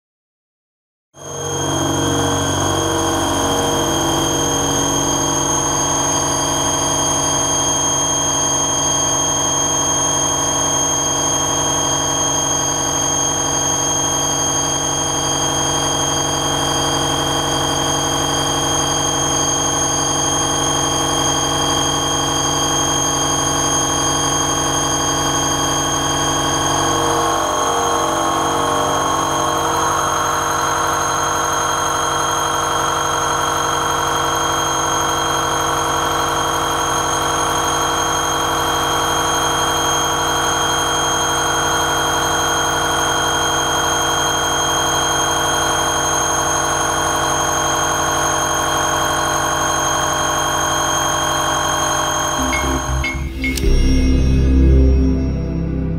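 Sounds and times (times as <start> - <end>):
milling cutter machining whine: 1.2 - 55.9.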